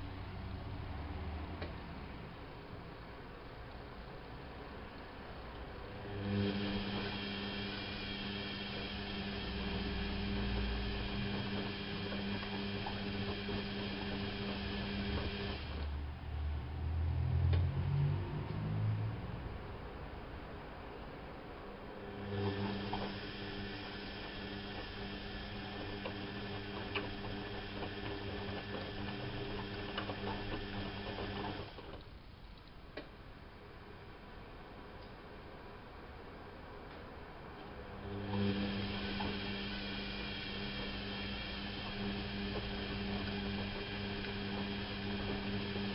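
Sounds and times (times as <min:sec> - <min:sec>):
washing machine motor hum: 0:00.0 - 0:20.2, 0:21.5 - 0:32.3, 0:37.2 - 0:45.9.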